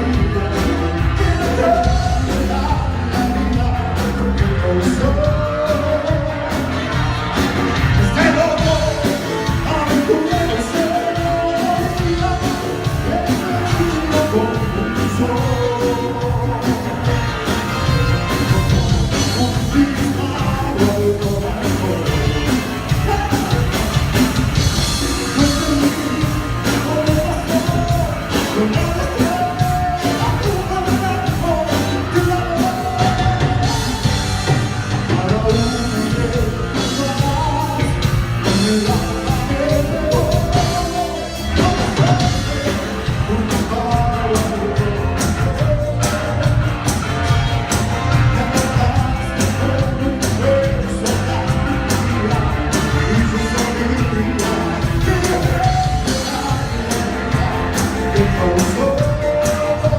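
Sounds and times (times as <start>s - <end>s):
cumbia band playing: 0.0s - 59.9s.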